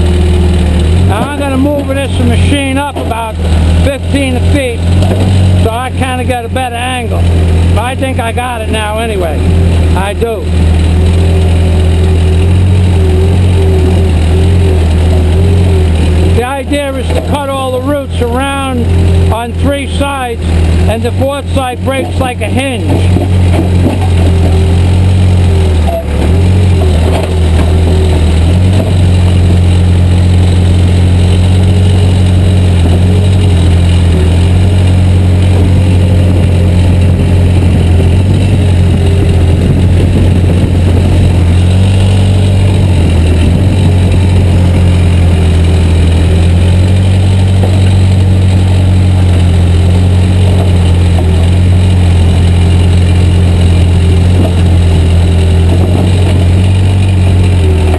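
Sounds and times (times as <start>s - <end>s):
diesel engine under load: 0.0s - 57.9s.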